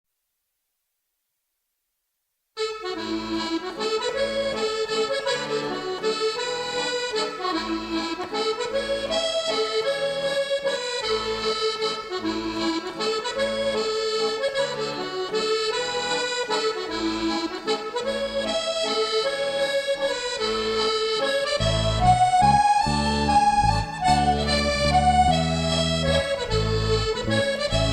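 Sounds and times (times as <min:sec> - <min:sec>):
accordion folk melody: 0:02.6 - 0:27.9.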